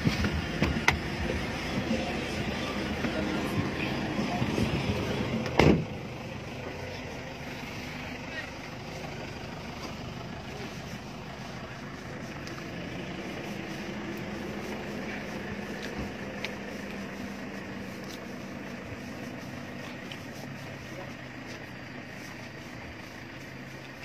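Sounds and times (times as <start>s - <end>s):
vehicle engine running: 0.0s - 24.0s
indistinct voices: 0.7s - 22.1s.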